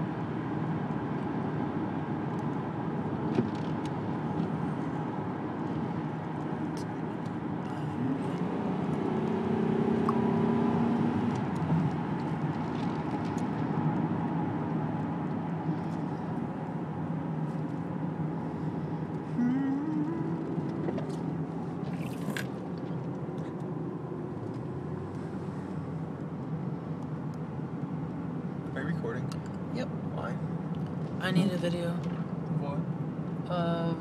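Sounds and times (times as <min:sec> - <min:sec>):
car engine: 0:00.0 - 0:34.0
road noise inside car: 0:00.0 - 0:34.0.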